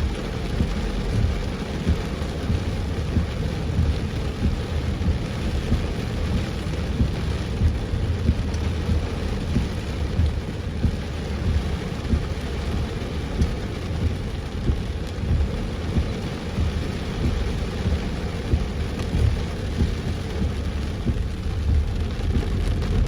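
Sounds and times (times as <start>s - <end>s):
deep continuous rumble: 0.0s - 23.0s
heavy rain on a car: 0.0s - 23.0s.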